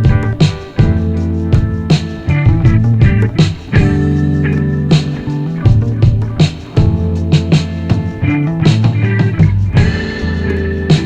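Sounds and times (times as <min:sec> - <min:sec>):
guitar-led rock music: 0:00.0 - 0:11.0.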